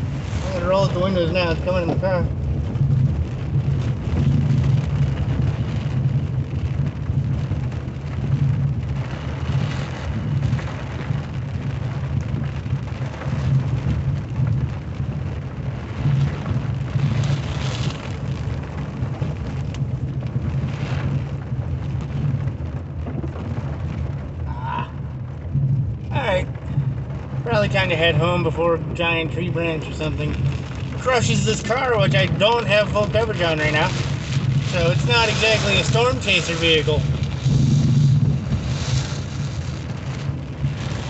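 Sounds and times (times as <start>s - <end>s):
car driving rumble: 0.0s - 41.0s
heavy rain on a car: 0.0s - 41.0s.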